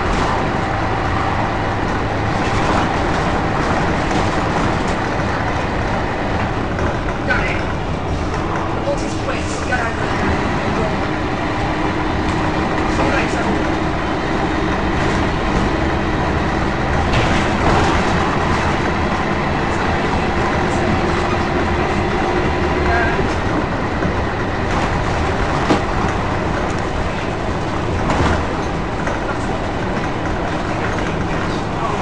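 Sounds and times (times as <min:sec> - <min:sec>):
bus body rattling: 0:00.0 - 0:32.0
bus diesel engine running: 0:00.0 - 0:32.0
road noise: 0:00.0 - 0:32.0.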